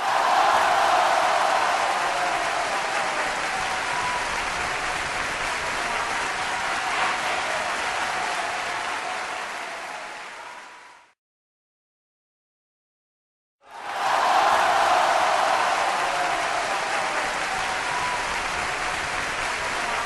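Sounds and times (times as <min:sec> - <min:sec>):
crowd cheering and applauding: 0:00.0 - 0:11.2, 0:13.6 - 0:20.0.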